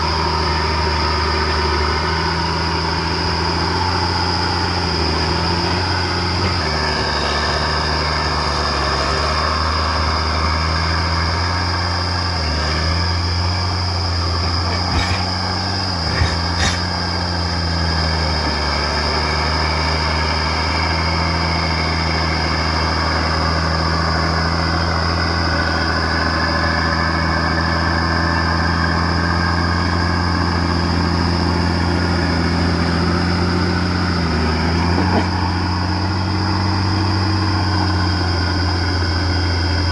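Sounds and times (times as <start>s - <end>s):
bulldozer diesel engine under load: 0.0s - 39.9s
steady high whine: 0.0s - 39.9s.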